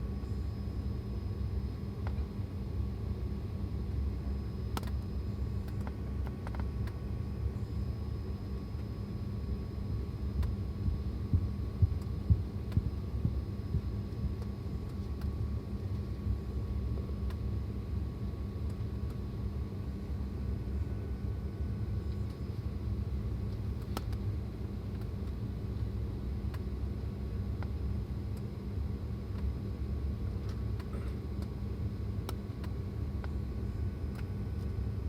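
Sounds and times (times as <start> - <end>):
airliner cabin rumble and hum: 0.0 - 35.0.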